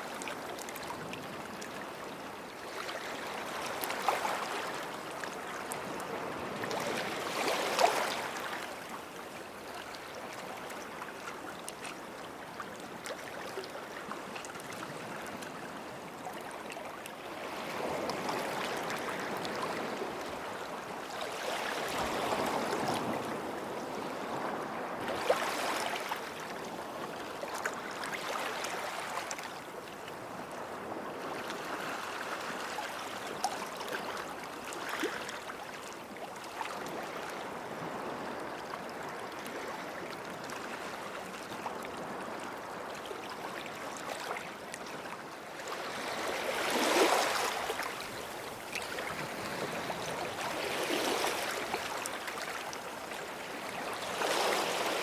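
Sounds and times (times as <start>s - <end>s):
small waves breaking on shore: 0.0s - 55.0s.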